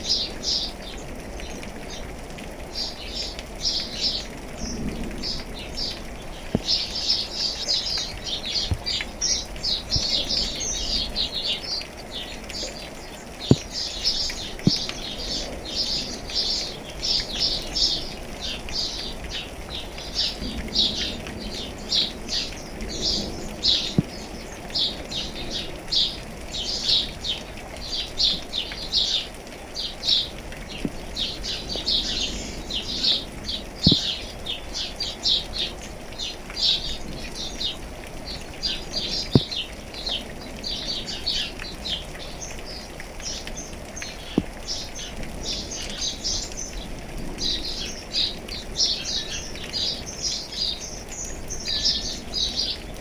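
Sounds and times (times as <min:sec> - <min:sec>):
birds chirping: 0:00.0 - 0:53.0
rain hiss: 0:00.0 - 0:53.0.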